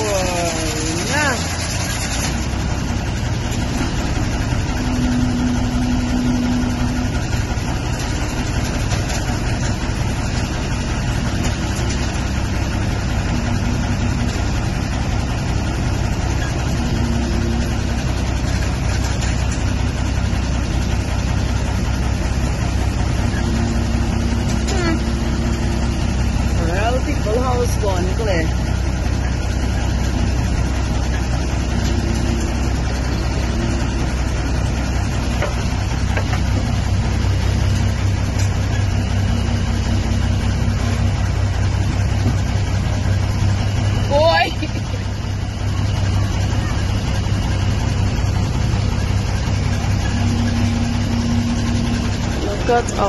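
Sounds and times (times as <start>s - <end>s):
vehicle engine rumbling: 0.0s - 53.0s
water and tyres rushing: 0.0s - 53.0s.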